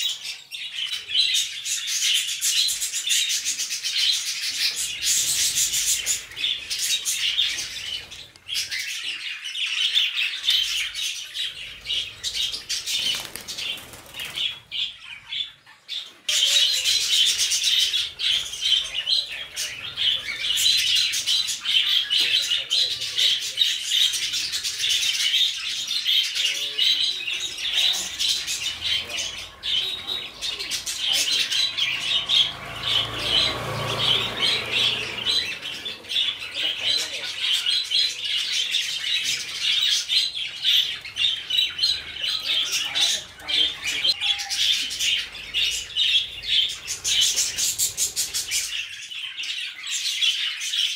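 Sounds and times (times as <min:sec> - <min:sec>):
budgerigars chattering and warbling: 0:00.0 - 0:50.9.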